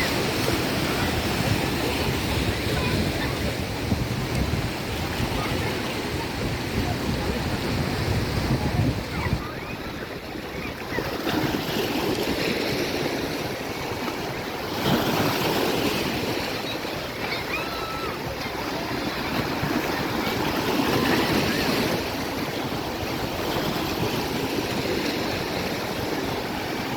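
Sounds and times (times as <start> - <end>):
sea surf rushing: 0.0 - 26.9
waves breaking: 0.0 - 26.9.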